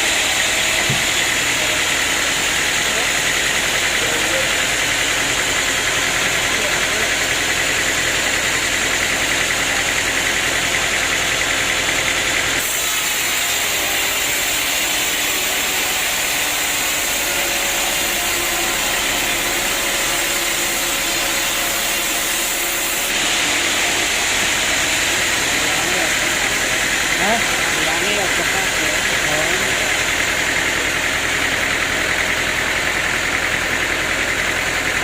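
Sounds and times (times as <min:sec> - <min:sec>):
sawmill machinery running: 0:00.0 - 0:35.0.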